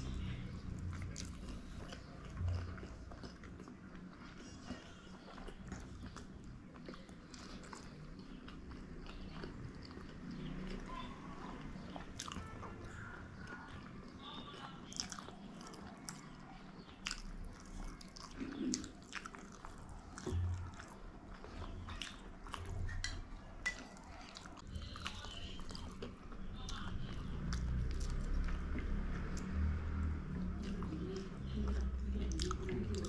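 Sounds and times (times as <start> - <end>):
close-up chewing: 0.0 - 33.0.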